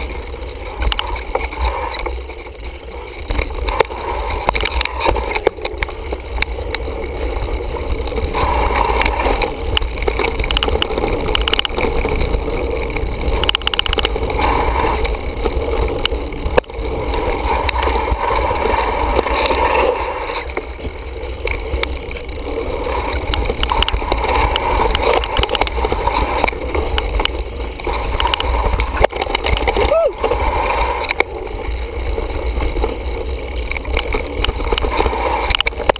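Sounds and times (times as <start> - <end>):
bike rattling and knocking: 0.0 - 35.9
tyres rolling over dirt: 0.0 - 35.9
wind rumble on camera: 0.0 - 35.9.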